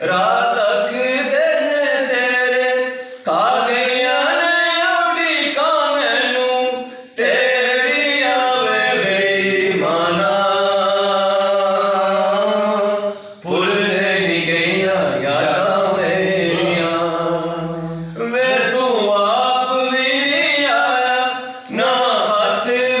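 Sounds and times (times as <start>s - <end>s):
men singing unaccompanied: 0.0s - 23.0s.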